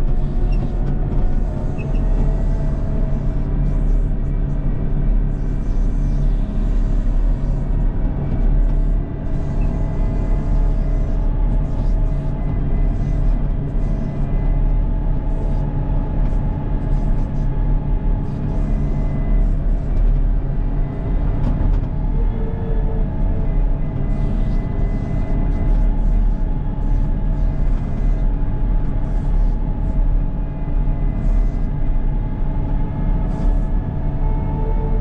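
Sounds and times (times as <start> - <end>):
diesel loader engine rumbling: 0.0 - 35.0.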